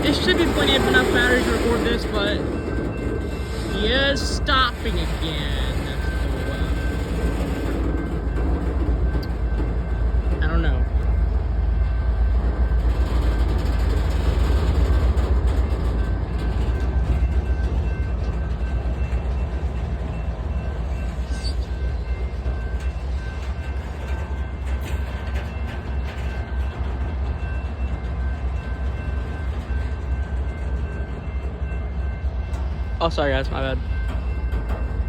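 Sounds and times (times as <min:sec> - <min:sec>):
freight train rumbling: 0:00.0 - 0:35.0.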